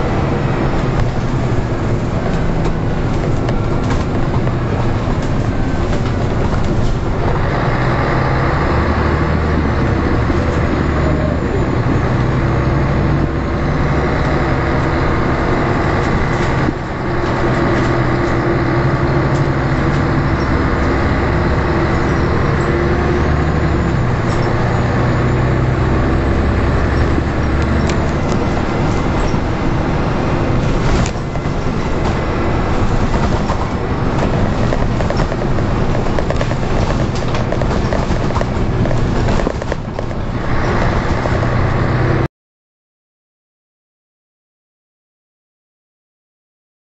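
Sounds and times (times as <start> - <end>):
bus diesel engine accelerating: 0.0 - 42.3.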